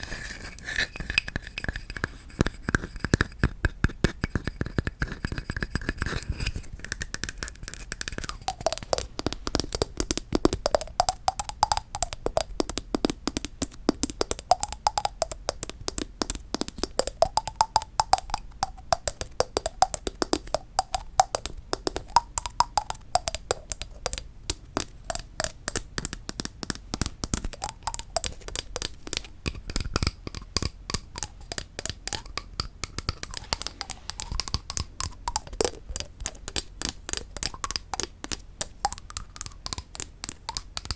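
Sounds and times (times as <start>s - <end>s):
rapid tapping on wood: 1.2s - 40.9s.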